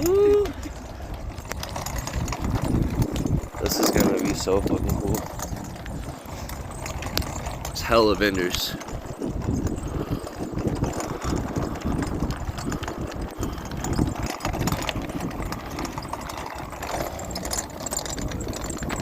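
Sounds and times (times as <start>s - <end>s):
wagon rattling over pavement: 0.0s - 19.0s.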